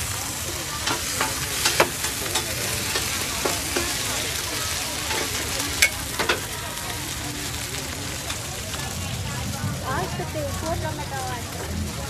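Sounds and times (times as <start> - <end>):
noodles sizzling in pan: 0.0 - 12.0.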